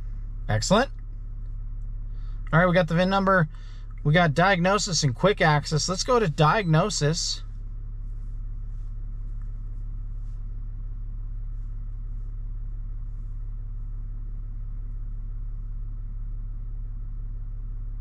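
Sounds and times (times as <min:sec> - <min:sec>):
diesel engine idling: 0:00.0 - 0:17.8.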